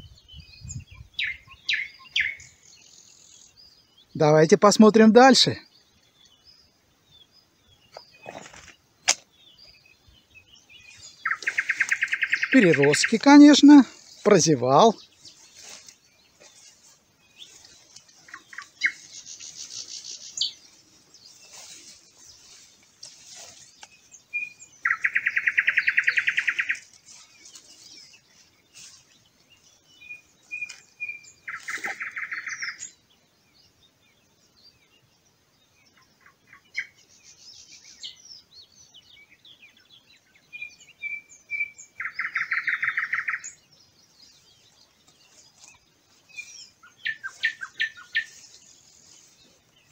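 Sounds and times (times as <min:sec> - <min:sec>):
birds chirping faintly: 0:00.0 - 0:49.9
songbird trilling song: 0:00.0 - 0:49.9.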